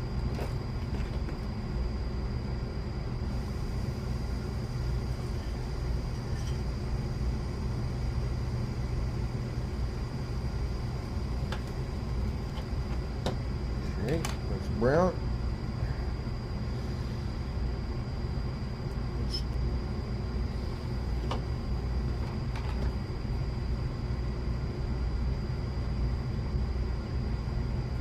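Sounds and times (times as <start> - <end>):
high whine: 0.0 - 28.0.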